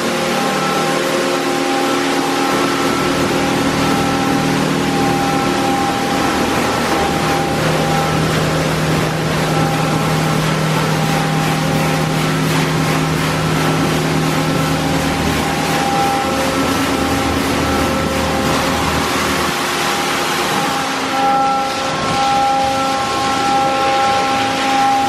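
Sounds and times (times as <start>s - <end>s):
pumps and motors humming: 0.0s - 25.0s
water spraying onto car: 0.0s - 25.0s.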